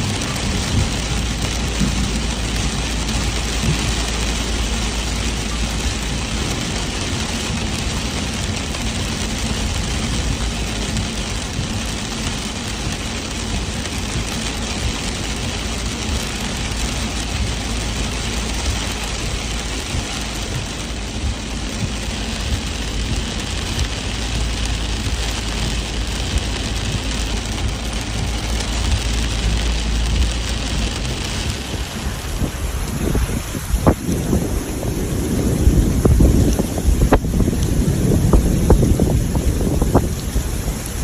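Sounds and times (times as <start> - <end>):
constant low rumble: 0.0 - 41.0
heavy rain falling: 0.0 - 41.0.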